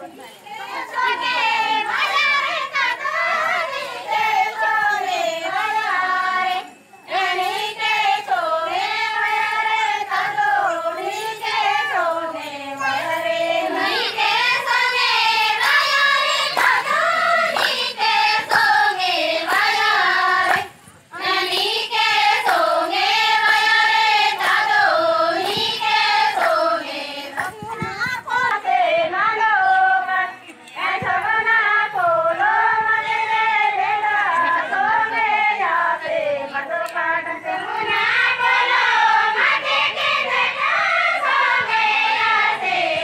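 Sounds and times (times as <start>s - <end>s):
women singing folk song: 0.4s - 43.0s.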